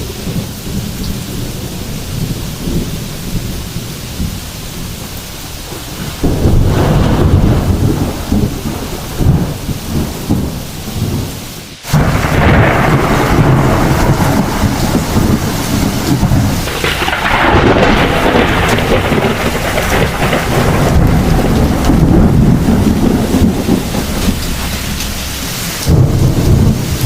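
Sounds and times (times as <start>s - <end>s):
heavy rain: 0.0s - 27.0s
thunder rumbling: 0.0s - 27.0s.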